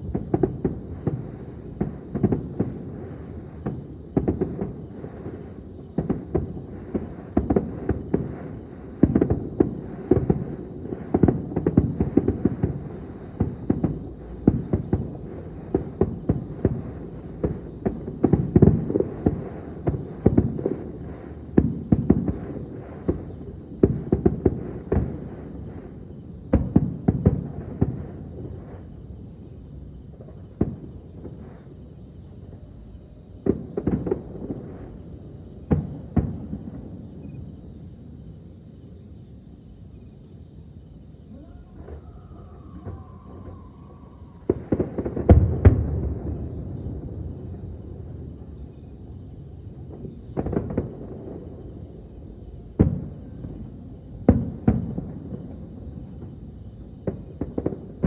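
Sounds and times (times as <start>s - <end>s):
distant fireworks booming and crackling: 0.0s - 58.0s
insects chirping: 0.0s - 58.0s.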